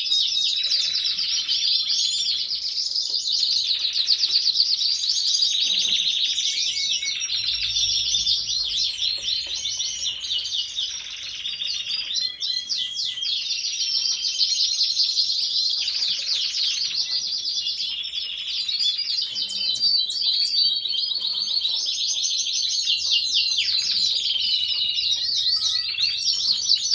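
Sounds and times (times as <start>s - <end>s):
canaries singing trills: 0.0s - 26.9s.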